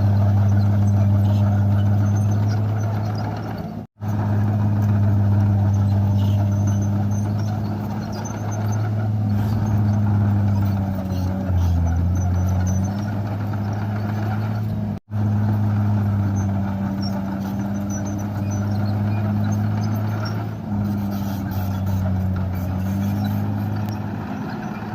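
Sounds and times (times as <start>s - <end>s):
bulldozer diesel engine droning: 0.0s - 24.9s.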